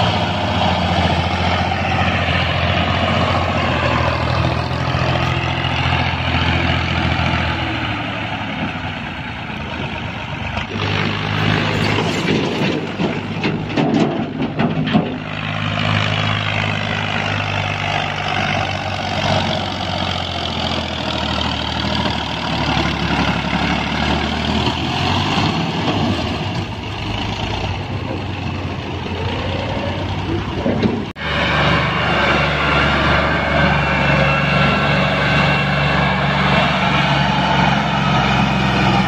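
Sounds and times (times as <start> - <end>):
engine clattering: 0.0 - 39.0
tractor diesel engine working hard: 0.0 - 39.0.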